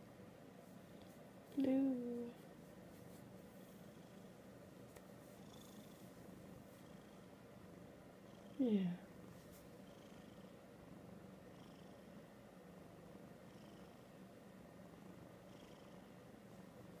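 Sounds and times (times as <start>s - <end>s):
cat purring: 0.7s - 14.2s, 14.8s - 17.0s.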